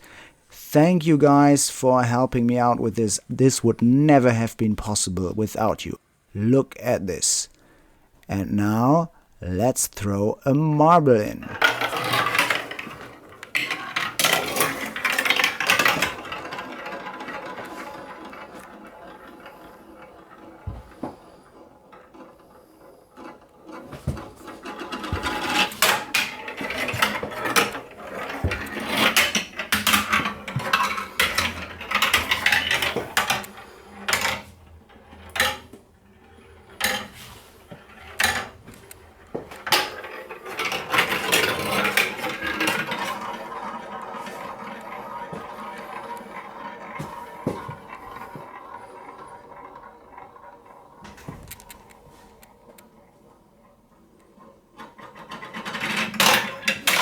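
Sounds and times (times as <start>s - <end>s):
marble rolling down plastic track: 10.8s - 57.0s.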